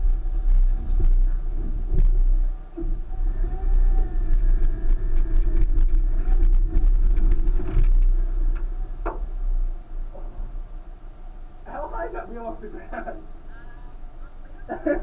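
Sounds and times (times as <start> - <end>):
car engine rumbling under load: 0.0 - 15.0.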